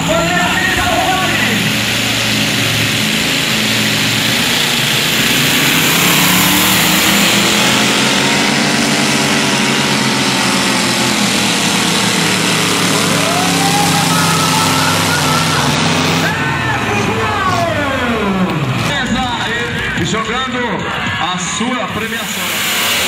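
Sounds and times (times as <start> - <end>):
tractor engine running hard: 0.0 - 23.0.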